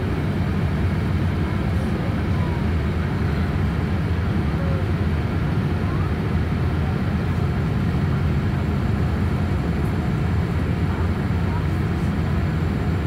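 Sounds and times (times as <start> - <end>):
airplane engine noise: 0.0 - 13.0.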